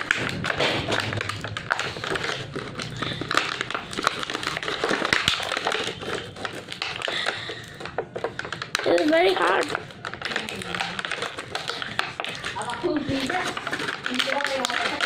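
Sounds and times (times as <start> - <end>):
plastic packaging crinkling and clicking: 0.0 - 15.0.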